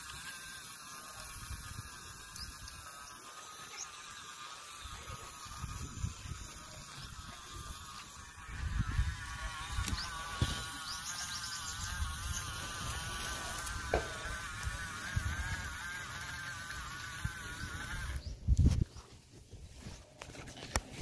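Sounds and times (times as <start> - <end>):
small electric motor whining: 0.0 - 18.9.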